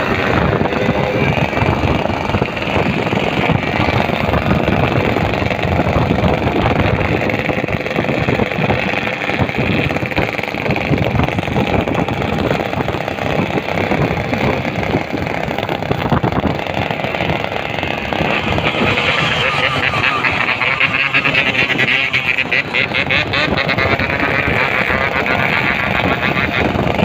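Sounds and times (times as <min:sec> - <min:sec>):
motorcycle engines running: 0:00.0 - 0:27.0
road and wind noise: 0:00.0 - 0:27.0.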